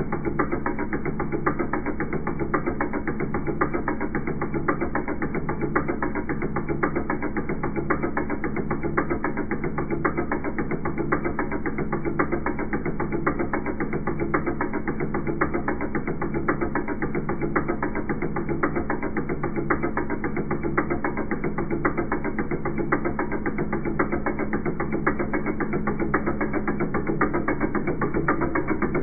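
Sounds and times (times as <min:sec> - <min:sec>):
fuel injectors clicking rapidly: 0:00.0 - 0:29.0.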